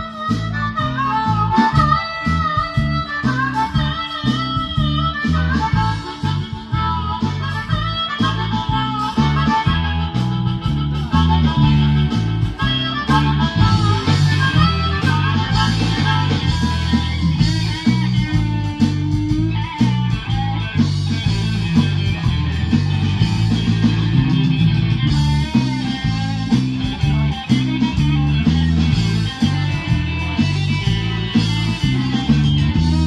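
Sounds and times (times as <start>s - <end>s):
bass and drums: 0.0s - 33.0s
electric guitar: 0.0s - 33.0s.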